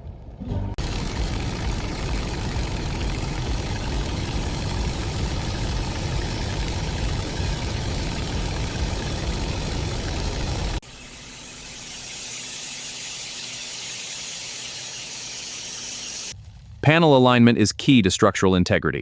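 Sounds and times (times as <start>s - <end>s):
machine rumble with hiss: 0.0s - 16.9s.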